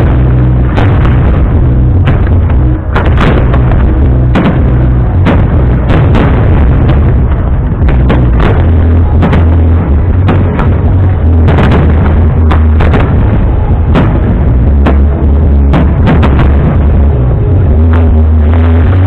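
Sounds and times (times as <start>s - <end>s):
deep rumble: 0.0s - 19.0s
fireworks bangs: 0.0s - 19.0s.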